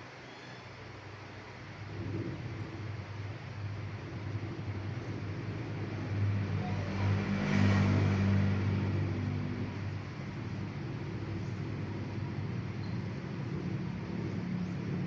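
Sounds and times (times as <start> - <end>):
motor vehicle passing: 1.5 - 15.0.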